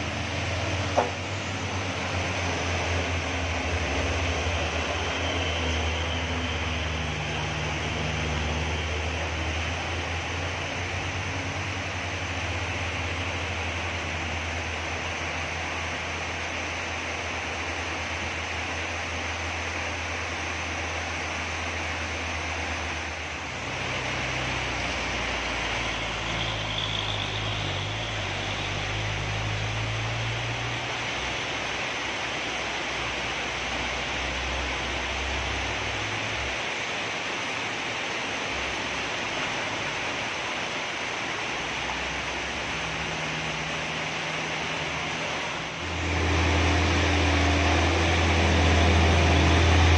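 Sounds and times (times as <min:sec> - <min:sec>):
heavy rain hissing: 0:00.0 - 0:49.9
truck engines droning: 0:00.0 - 0:49.9.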